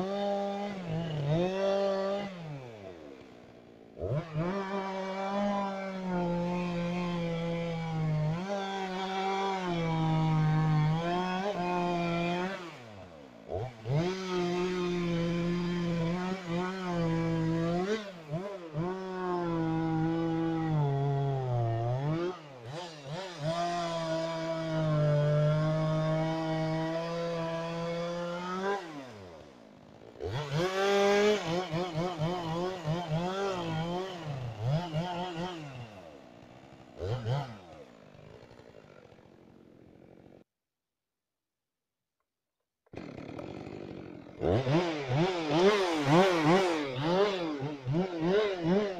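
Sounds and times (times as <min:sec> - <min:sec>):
chainsaw cutting log: 0:00.0 - 0:40.5, 0:42.9 - 0:48.9.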